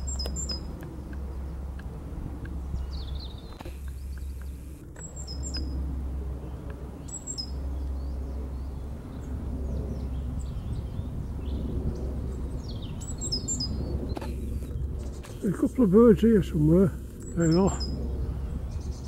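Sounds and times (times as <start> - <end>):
low rumble: 0.0 - 19.0
songbirds chirping: 0.0 - 19.0.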